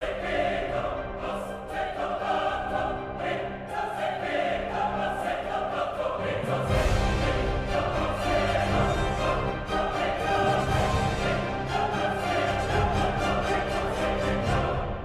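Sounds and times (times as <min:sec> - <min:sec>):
choir singing with orchestra: 0:00.0 - 0:15.0.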